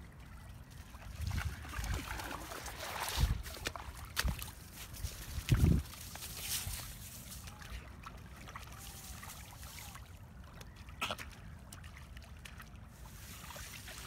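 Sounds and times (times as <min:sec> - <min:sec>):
shallow water lapping: 0:00.0 - 0:14.0.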